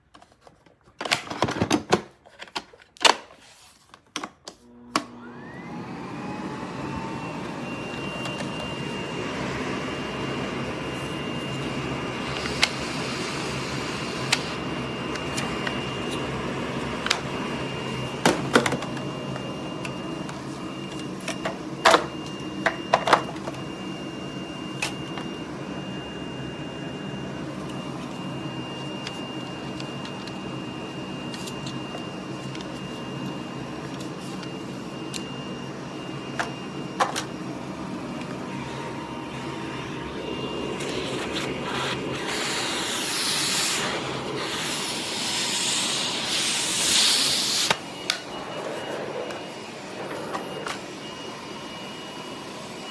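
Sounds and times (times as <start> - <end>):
vacuum cleaner motor whine: 4.6 - 52.9.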